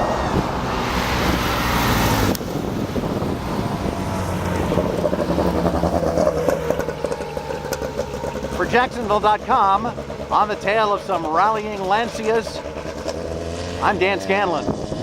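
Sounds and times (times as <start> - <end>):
rally cars driving by: 0.0 - 15.0
road and wind noise: 0.0 - 15.0.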